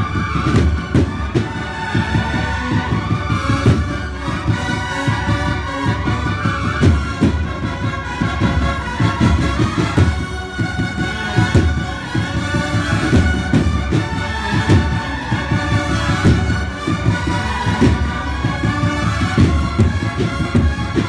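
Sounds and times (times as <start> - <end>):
cornets playing held chords: 0.0 - 21.0
steady drum beats: 0.0 - 21.0.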